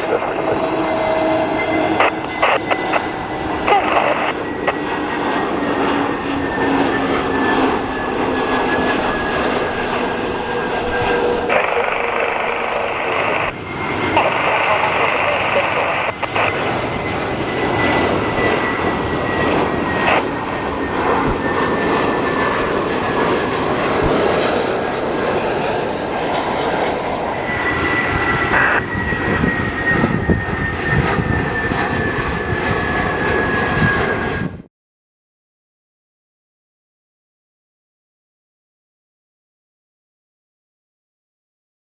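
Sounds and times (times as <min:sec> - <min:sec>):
jet airliner engines roaring: 0:00.0 - 0:34.7.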